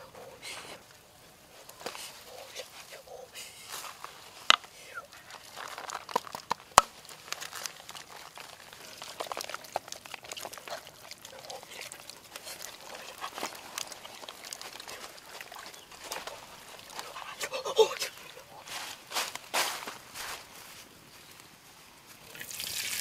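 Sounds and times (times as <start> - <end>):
hands rubbing wet seasoning: 1.7 - 20.4.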